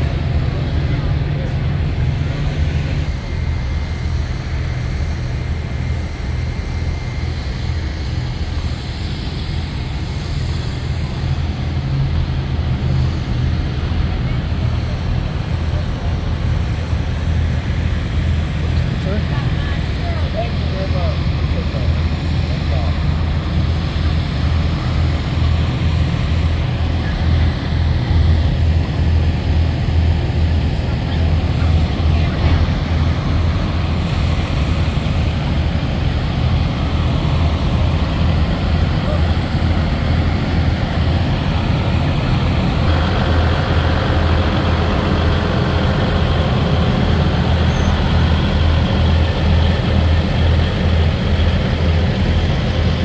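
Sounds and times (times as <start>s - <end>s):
faint voices: 0.0s - 4.1s, 13.7s - 53.0s
diesel engine idling: 0.0s - 53.0s.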